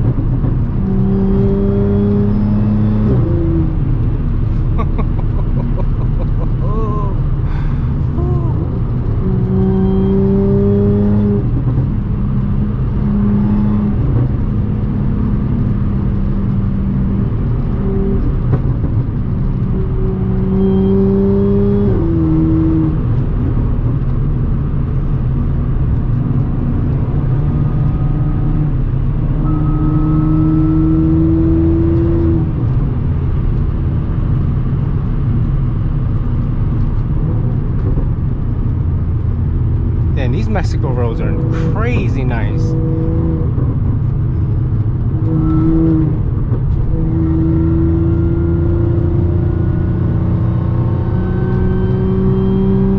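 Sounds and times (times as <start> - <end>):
car engine drone: 0.0 - 52.9.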